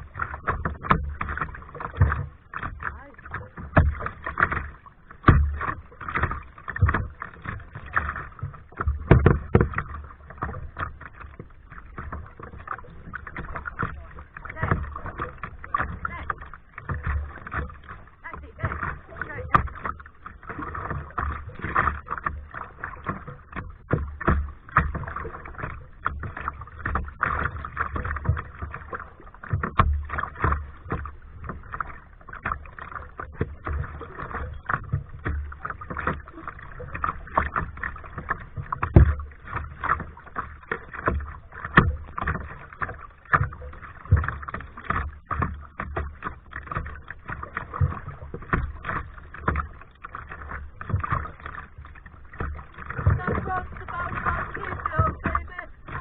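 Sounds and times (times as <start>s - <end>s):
paddle splashing in water: 0.0s - 56.0s.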